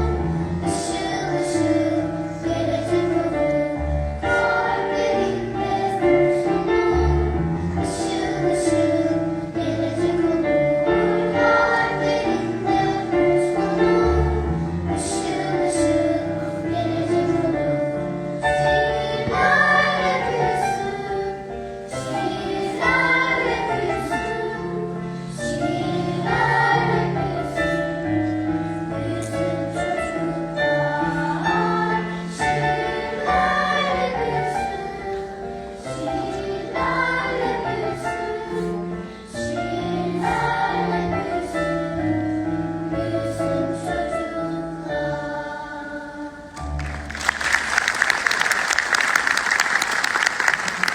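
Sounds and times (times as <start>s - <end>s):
choir singing held notes: 0.0s - 50.9s.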